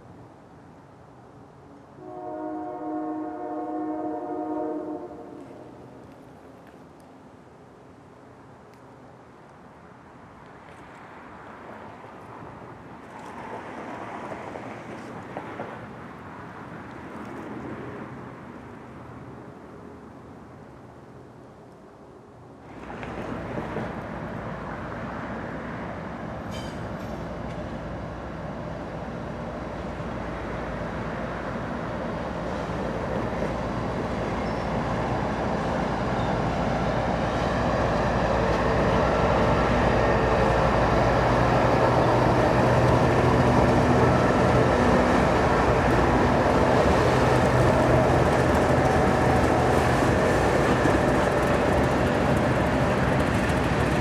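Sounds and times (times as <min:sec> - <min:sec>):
diesel locomotives passing: 0:00.0 - 0:54.0.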